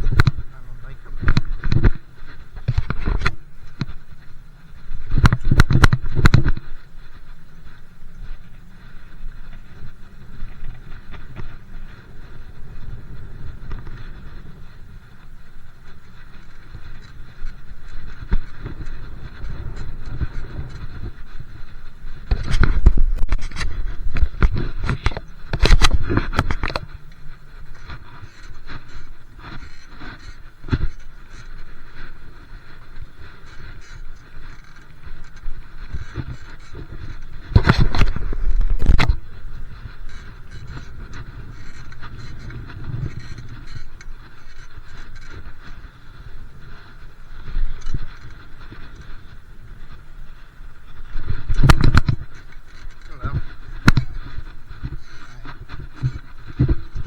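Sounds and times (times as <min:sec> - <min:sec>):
faint rattles: 0:00.0 - 0:57.0
wind buffeting microphone: 0:00.0 - 0:57.0.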